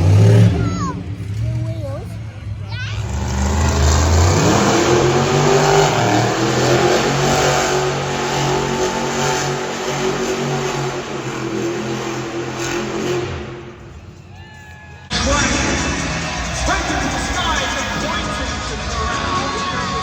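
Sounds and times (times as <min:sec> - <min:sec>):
monster truck engine revving: 0:00.0 - 0:14.3, 0:15.1 - 0:20.0.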